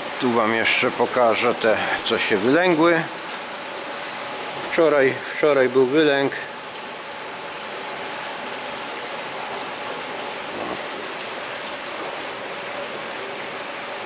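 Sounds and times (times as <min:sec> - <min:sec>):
faint steady hum: 0:00.0 - 0:14.0
water rushing through troughs: 0:00.0 - 0:14.0.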